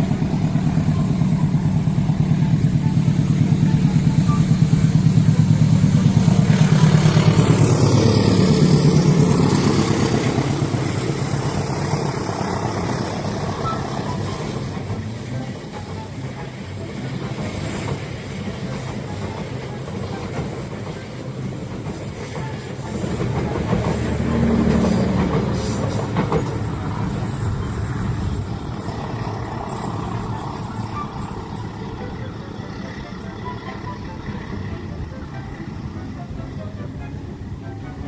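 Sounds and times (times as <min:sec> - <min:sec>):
train rumbling by: 0:00.0 - 0:38.0.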